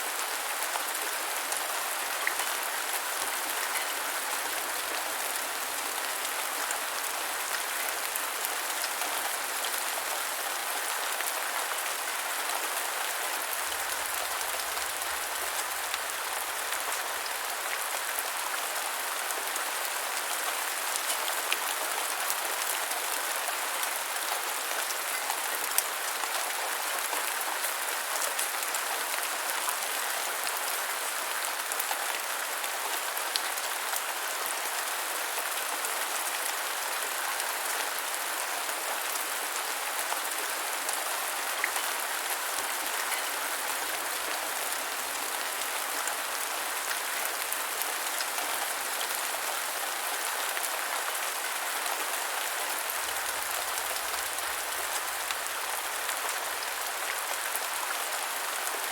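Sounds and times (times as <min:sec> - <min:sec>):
rain falling on ground: 0:00.0 - 0:58.9.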